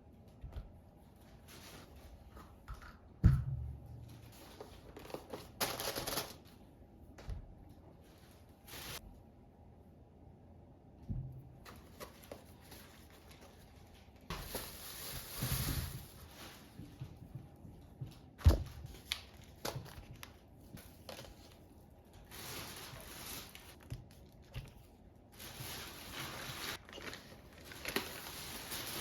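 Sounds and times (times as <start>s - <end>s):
rustling and crinkling: 0.2s - 3.0s, 3.9s - 6.6s, 7.7s - 9.1s, 11.6s - 29.0s.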